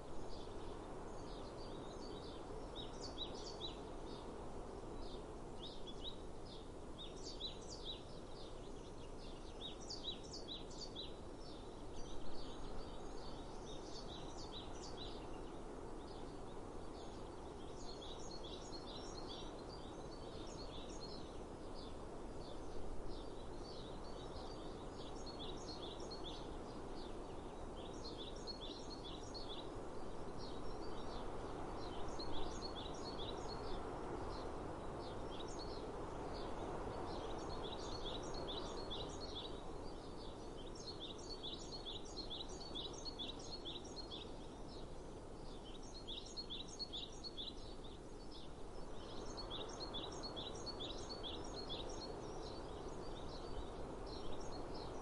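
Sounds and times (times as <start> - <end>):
outdoor background hiss: 0.0 - 55.0
songbirds chirping: 0.0 - 55.0.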